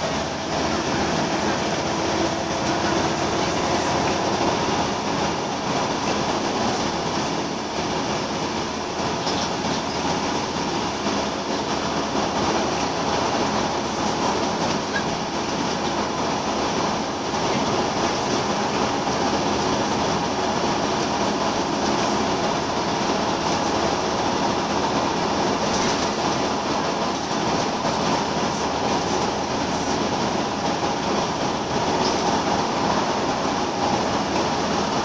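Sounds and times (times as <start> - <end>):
bus engine and road noise: 0.0 - 35.0.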